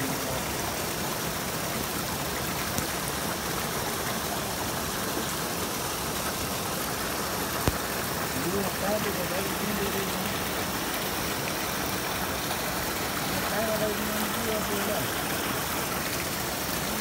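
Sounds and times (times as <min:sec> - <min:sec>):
stream running over rocks: 0:00.0 - 0:17.0.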